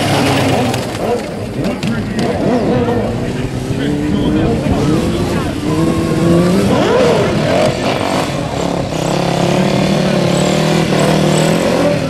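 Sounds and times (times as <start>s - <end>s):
quad engine running: 0.0s - 12.0s
voices: 0.0s - 12.0s.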